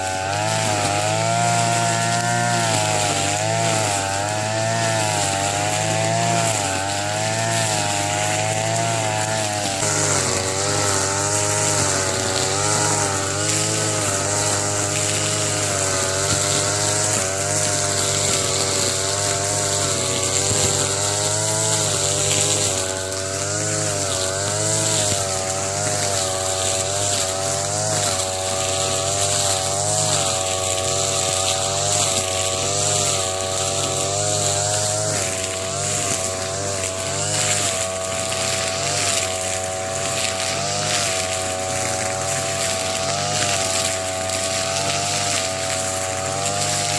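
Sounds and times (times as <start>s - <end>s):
brush cutter cutting grass: 0.0s - 46.9s.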